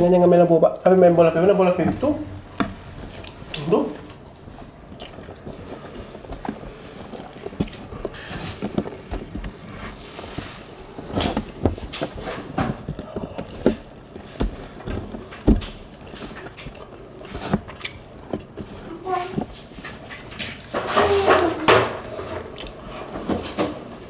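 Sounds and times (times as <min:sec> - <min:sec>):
people chewing and lip smacking: 0:02.4 - 0:24.0.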